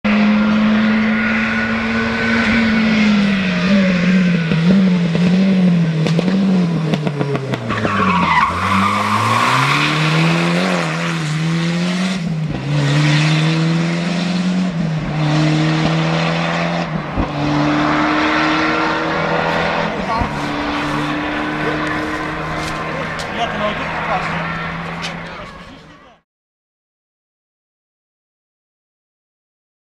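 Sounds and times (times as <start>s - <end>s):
rally car engine revving: 0.1s - 26.0s.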